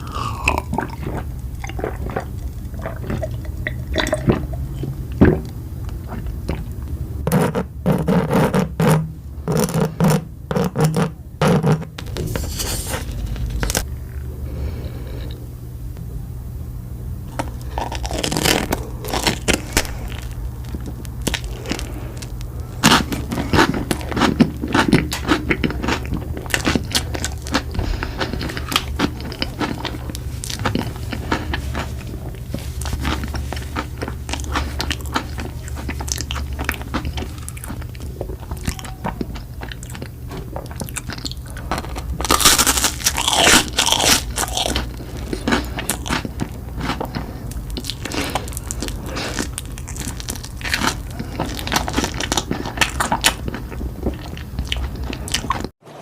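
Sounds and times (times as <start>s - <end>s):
crunching and chewing crisp food: 0.0s - 15.4s, 17.2s - 55.8s.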